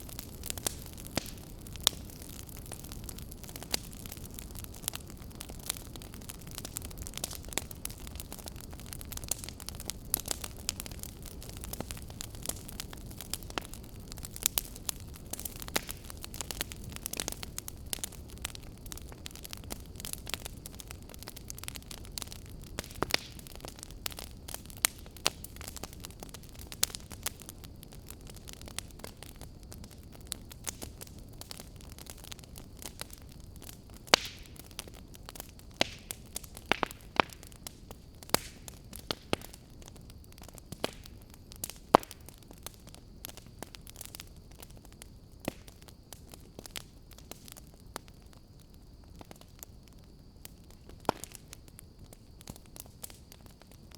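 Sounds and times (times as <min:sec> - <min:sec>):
fire crackling: 0:00.0 - 0:53.9
low rumble of burning: 0:00.0 - 0:53.9.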